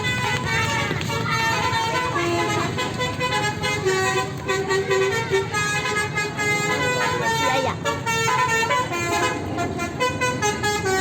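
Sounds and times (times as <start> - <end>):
bus engine rumble: 0.0 - 11.0
musical air horn playing a tune: 0.0 - 11.0.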